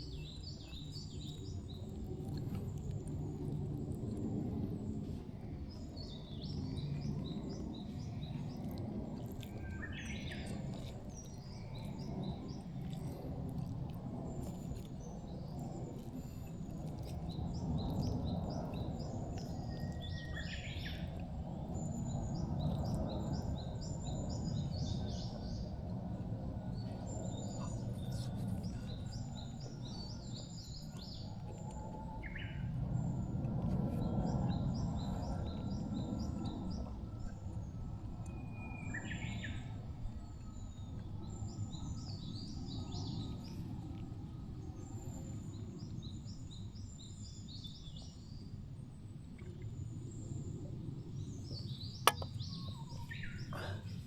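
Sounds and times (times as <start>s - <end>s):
songbirds chirping: 0.0s - 48.5s, 49.4s - 54.0s.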